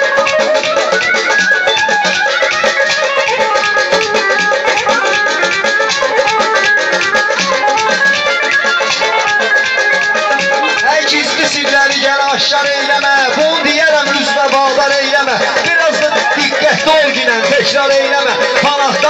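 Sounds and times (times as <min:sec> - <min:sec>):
instrumental backing music: 0:00.0 - 0:19.0.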